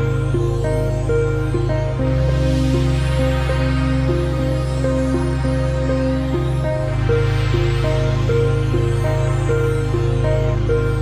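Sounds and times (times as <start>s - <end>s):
calm electronic music: 0.0s - 11.0s.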